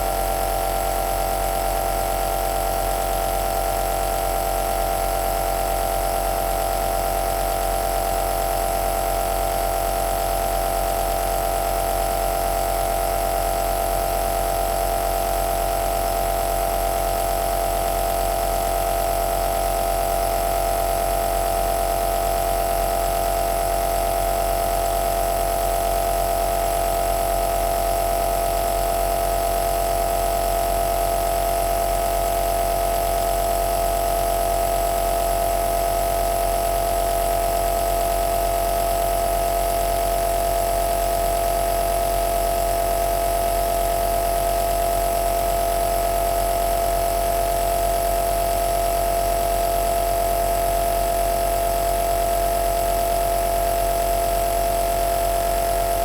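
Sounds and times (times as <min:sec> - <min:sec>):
nebuliser motor and pump hum: 0:00.0 - 0:56.0.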